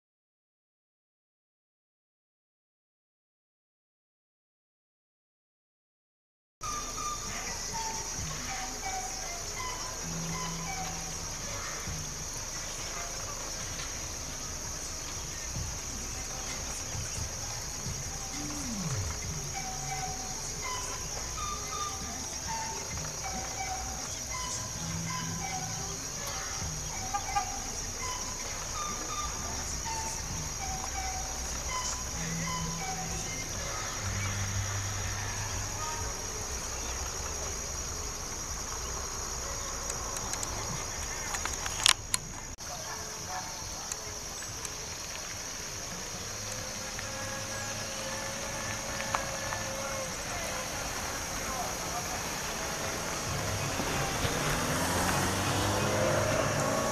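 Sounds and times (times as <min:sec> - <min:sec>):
high-pitched insect chorus: 0:06.6 - 0:56.9.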